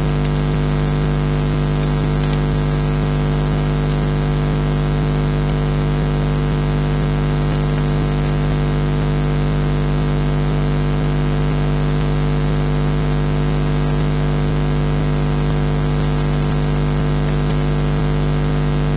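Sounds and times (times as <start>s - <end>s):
electrical hum: 0.0s - 18.9s
faint crackles: 0.0s - 18.9s.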